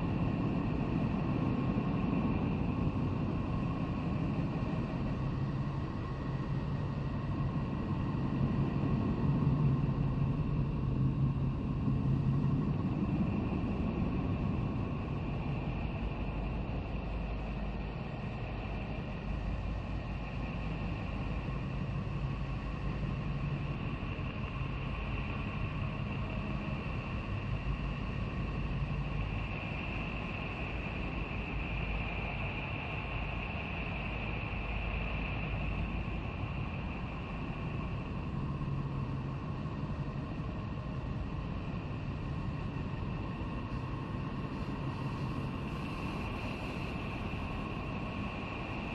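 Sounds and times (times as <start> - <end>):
rumbling hissing drone: 0.0 - 48.9.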